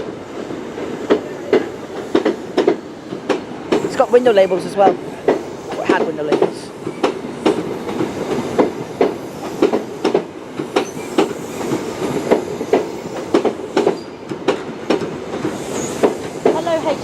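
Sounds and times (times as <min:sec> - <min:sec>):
train wheel rumble: 0:00.0 - 0:17.0
train wheels clicking over rail joints: 0:00.0 - 0:17.0.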